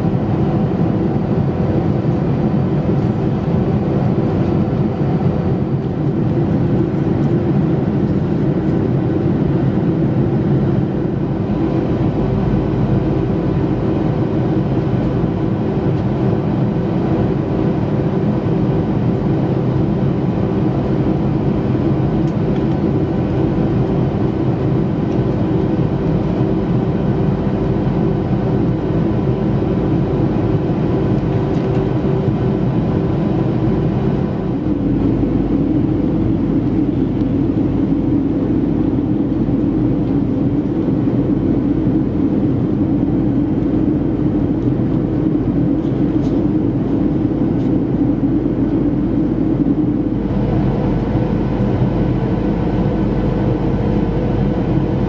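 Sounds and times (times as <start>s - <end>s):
airplane cabin drone: 0.0s - 55.0s
low hum: 0.0s - 55.0s.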